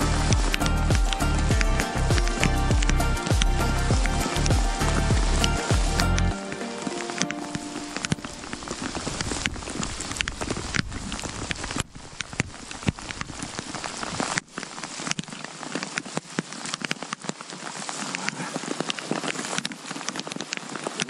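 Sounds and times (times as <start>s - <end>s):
heavy rain on a lake: 0.0s - 21.0s.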